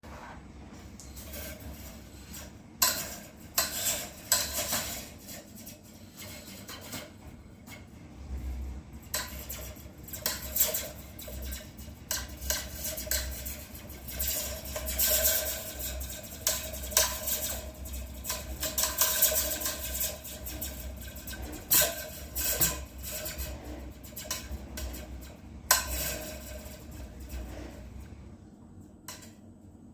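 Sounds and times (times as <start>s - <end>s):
metal slinky springy zaps: 1.0s - 7.2s, 9.0s - 28.0s.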